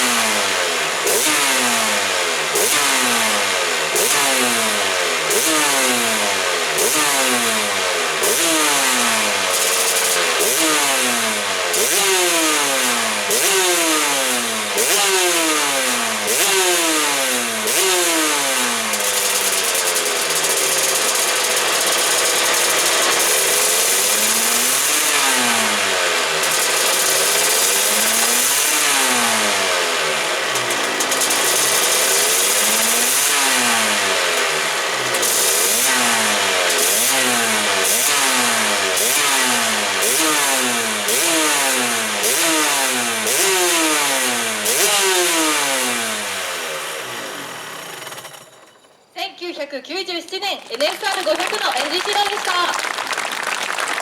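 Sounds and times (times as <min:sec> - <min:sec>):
race engine revving: 0:00.0 - 0:48.7.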